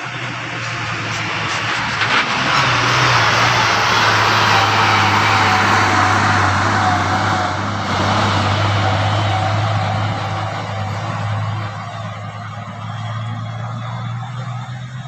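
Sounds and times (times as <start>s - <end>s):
road noise hiss: 0.0s - 15.0s
truck engine running: 0.0s - 15.0s.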